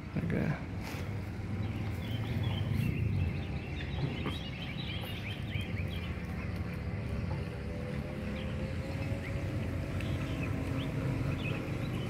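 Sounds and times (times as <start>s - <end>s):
low outdoor rumble: 0.0s - 12.0s
small birds chirping: 0.2s - 12.0s.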